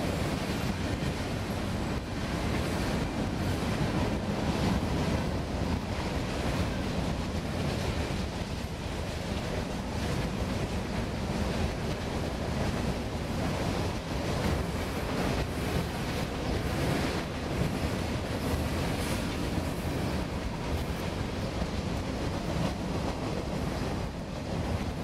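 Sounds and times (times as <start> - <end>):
freight train rumbling past: 0.0 - 25.0
wind buffeting microphone: 0.0 - 25.0.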